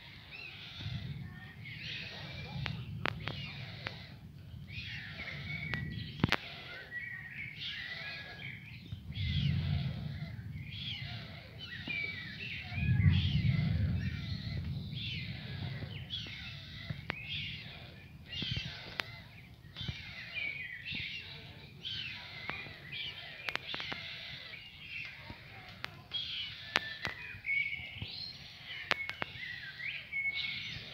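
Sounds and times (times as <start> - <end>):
distant thunder rumbling: 0.0 - 29.4
songbird singing: 0.0 - 30.9.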